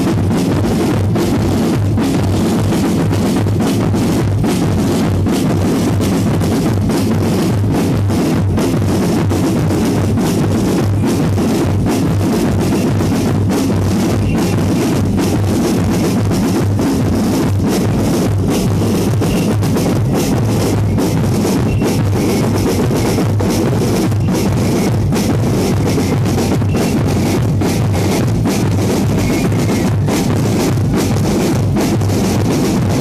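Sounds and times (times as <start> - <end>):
drum kit beat: 0.0 - 33.0.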